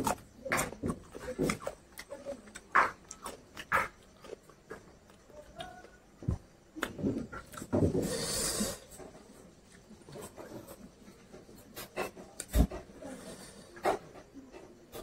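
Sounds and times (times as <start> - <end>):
man chewing: 0.0 - 13.0.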